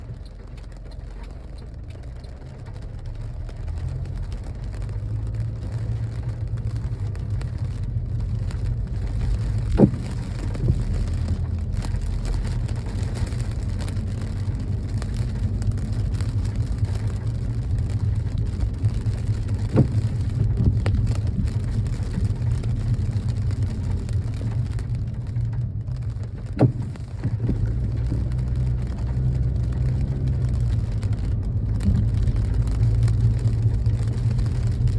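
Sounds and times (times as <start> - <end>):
road and engine rumble: 0.0 - 34.9
rain hiss: 2.4 - 34.9.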